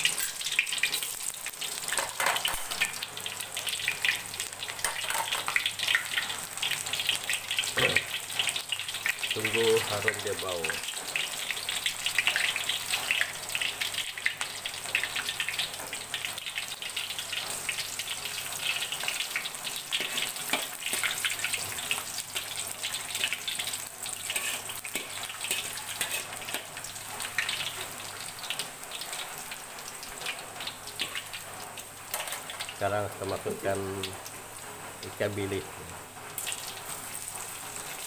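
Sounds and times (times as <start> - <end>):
onion sizzling in hot oil: 0.0 - 38.0.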